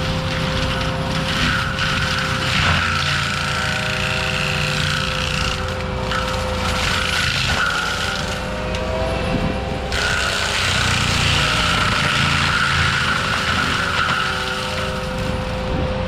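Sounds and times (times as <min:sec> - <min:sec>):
diesel engine rumble: 0:00.0 - 0:16.0
forestry mulcher grinding trees: 0:00.0 - 0:16.0.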